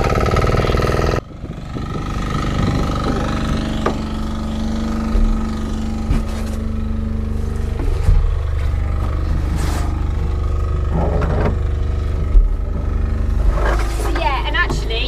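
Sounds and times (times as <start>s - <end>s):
engine pulsing drone: 0.0s - 15.0s.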